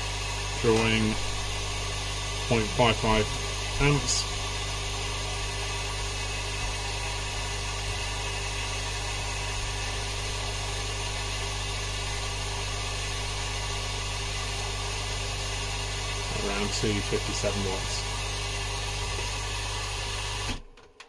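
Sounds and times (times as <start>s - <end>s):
air pump humming and hissing: 0.0s - 20.6s.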